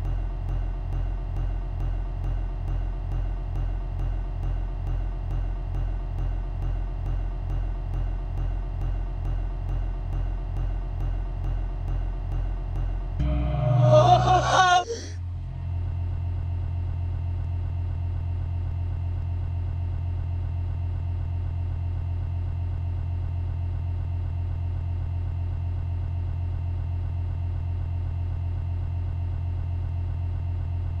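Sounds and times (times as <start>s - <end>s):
loud low buzzing hum: 0.0s - 14.6s, 15.2s - 31.0s.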